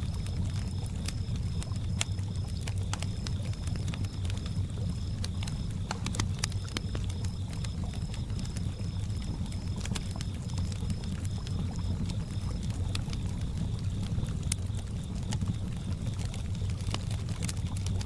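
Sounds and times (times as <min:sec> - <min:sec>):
campfire crackling and popping: 0:00.0 - 0:18.0
cricket chirping in pulses: 0:00.0 - 0:18.0
low steady water sound: 0:00.0 - 0:18.0.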